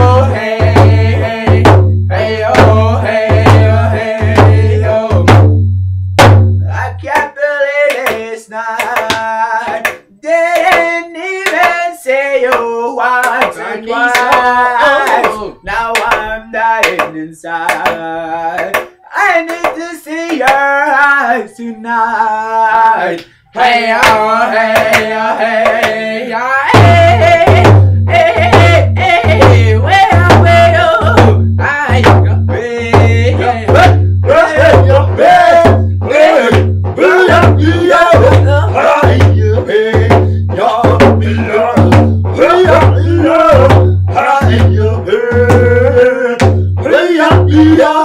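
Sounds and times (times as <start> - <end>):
men singing: 0.0 - 5.5, 6.6 - 48.0
hand drum beating: 0.0 - 6.6, 7.2 - 11.8, 12.5 - 18.9, 24.0 - 26.0, 26.7 - 48.0.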